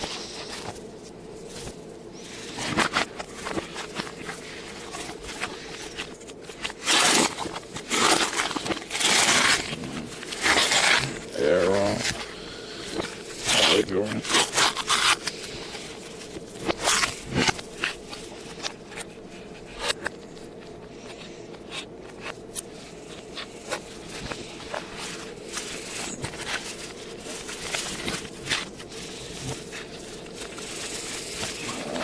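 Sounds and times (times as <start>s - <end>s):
faint steady hum: 0.0s - 32.0s
packaging clicks and rustles reversed: 0.0s - 32.0s.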